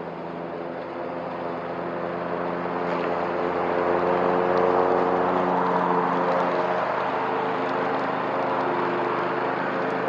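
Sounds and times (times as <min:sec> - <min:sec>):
riding mower engine running: 0:00.0 - 0:10.0.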